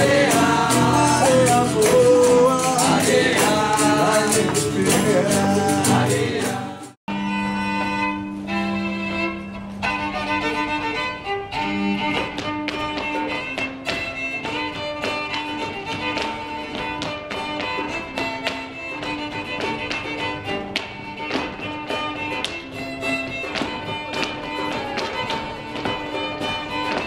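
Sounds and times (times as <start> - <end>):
sharp percussive taps: 0.0 - 6.8, 12.0 - 27.0
fiddle playing folk tune: 0.0 - 27.0.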